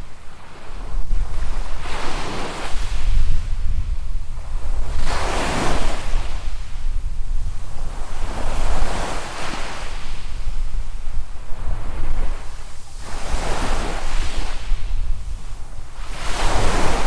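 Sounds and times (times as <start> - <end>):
wind rumble on microphone: 0.0 - 17.0
waves breaking on sand: 0.1 - 17.0.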